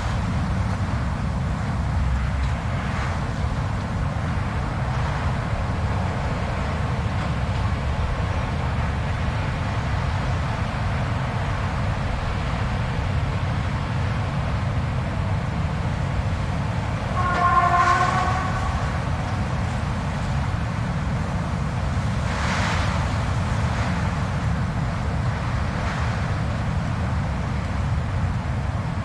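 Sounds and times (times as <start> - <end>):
blizzard wind with low rumble: 0.0 - 29.0
hissing wind gusts: 0.0 - 29.0
pitched wind howl: 0.0 - 29.0.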